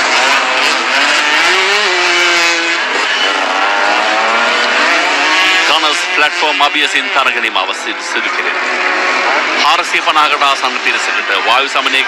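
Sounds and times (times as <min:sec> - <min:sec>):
engine revving: 0:00.0 - 0:12.0
motocross bike engines running: 0:00.0 - 0:12.0.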